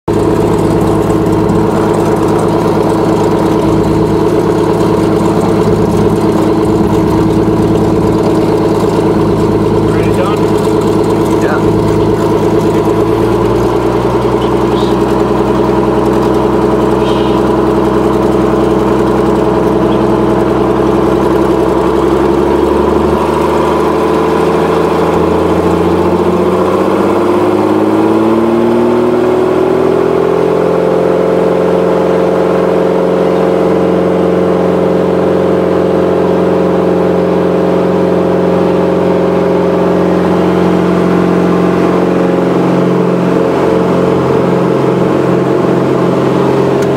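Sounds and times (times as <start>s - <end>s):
propeller aircraft engine: 0.0s - 46.9s.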